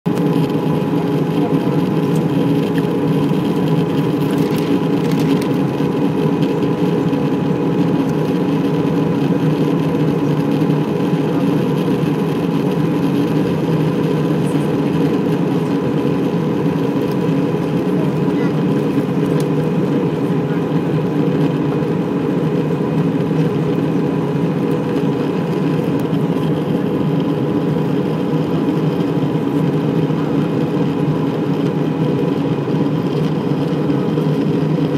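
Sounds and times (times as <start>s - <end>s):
jet engine and airflow drone: 0.1s - 34.9s.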